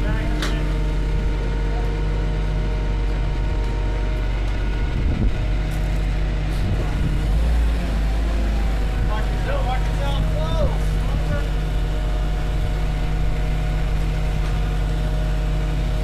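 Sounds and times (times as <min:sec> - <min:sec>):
hoist engine droning: 0:00.0 - 0:16.0.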